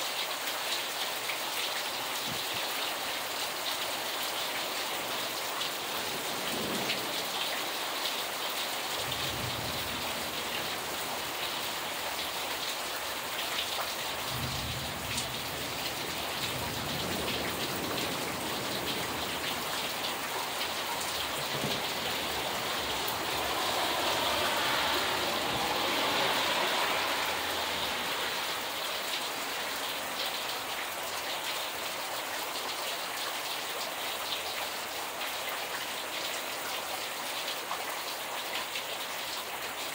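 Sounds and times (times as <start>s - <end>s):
rain falling into standing water: 0.0s - 39.9s.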